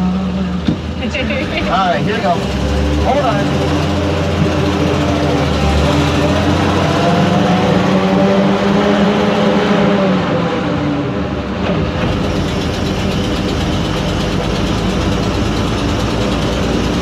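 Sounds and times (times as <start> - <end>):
boat engine running: 0.0 - 9.6, 11.4 - 17.0.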